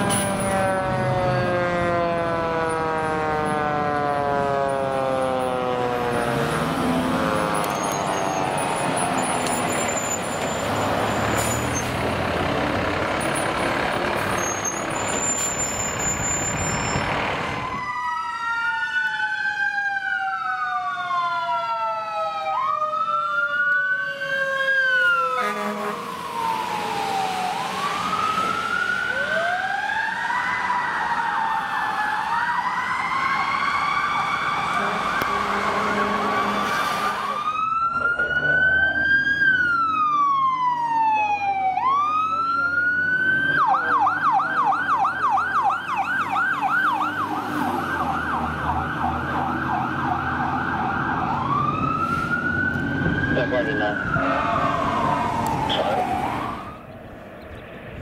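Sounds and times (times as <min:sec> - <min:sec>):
heavy vehicle noise: 0:00.0 - 0:18.2, 0:23.9 - 0:58.0
fire truck sirens wailing: 0:00.0 - 0:58.0.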